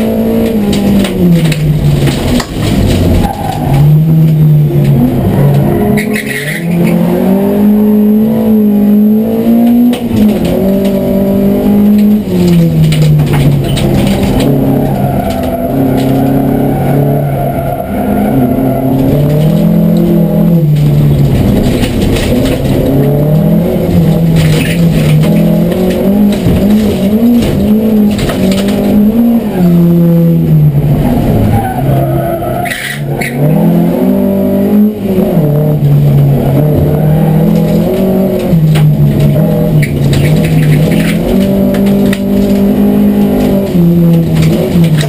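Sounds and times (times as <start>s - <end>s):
race car engine revving: 0.0s - 45.0s.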